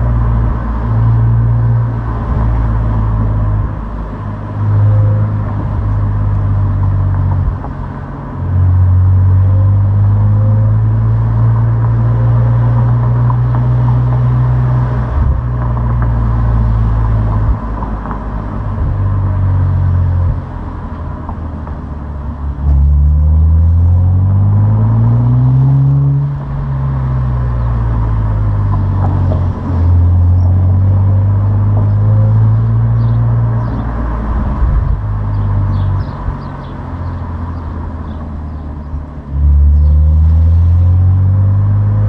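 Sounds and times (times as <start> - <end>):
car engine droning under load: 0.0 - 42.0.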